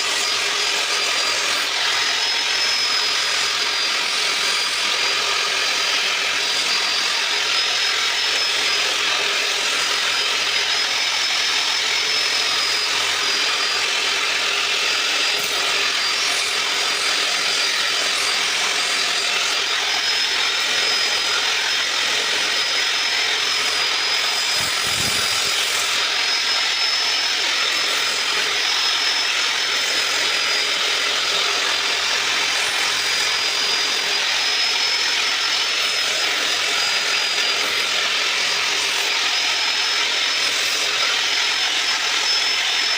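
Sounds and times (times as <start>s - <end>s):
power sander whining on wood: 0.0s - 42.9s.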